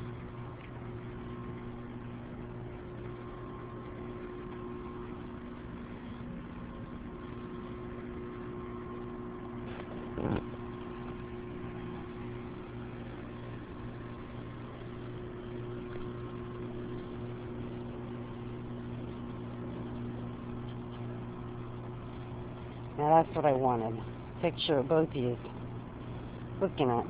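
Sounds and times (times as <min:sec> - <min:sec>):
mechanical hum: 0:00.0 - 0:27.0.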